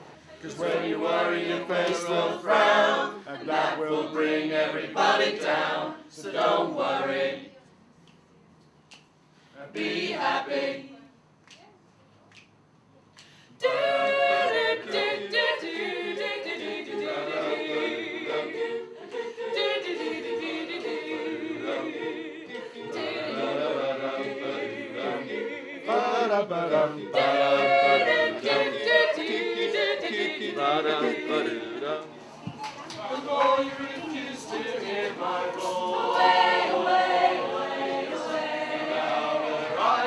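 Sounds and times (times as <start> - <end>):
choir singing a cappella: 0.0 - 7.6, 9.6 - 11.1, 13.6 - 40.0.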